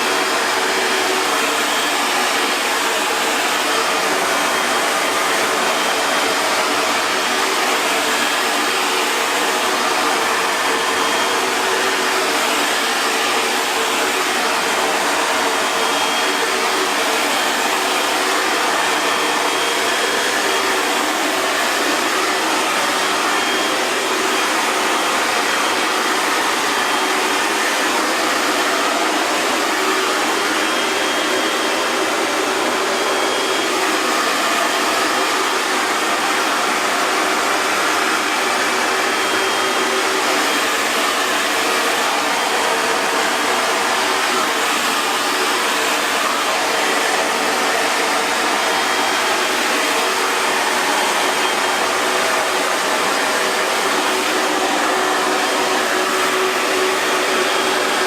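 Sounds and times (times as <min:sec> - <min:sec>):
hair dryer blowing air: 0:00.0 - 0:58.0.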